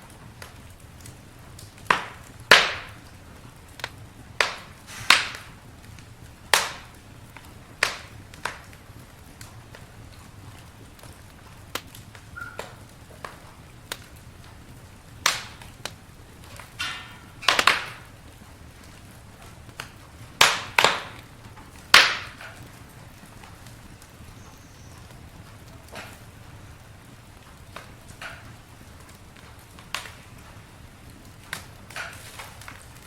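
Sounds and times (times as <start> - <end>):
campfire wood crackling: 0.0 - 33.0
sharp pops of fire: 0.0 - 33.0.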